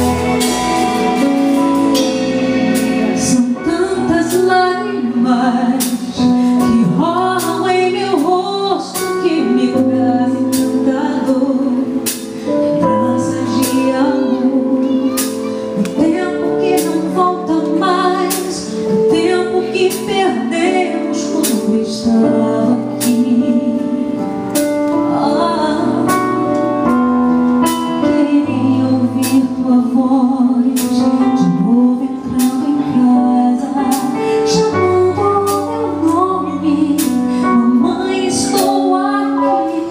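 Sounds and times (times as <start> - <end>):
band accompaniment with steady beat: 0.0 - 39.9
woman singing gospel song: 3.2 - 12.1, 12.8 - 14.9, 15.8 - 24.2, 25.1 - 27.0, 28.0 - 39.9.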